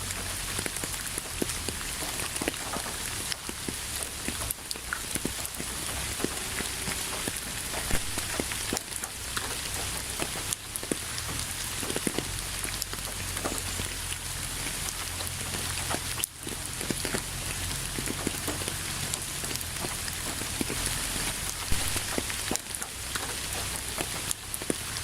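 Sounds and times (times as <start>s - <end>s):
steady rain with pattering drops: 0.0s - 25.0s.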